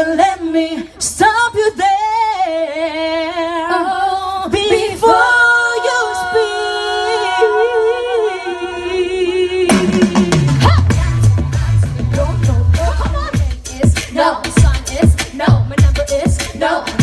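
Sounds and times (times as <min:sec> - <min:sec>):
female vocal group singing: 0:00.0 - 0:17.0.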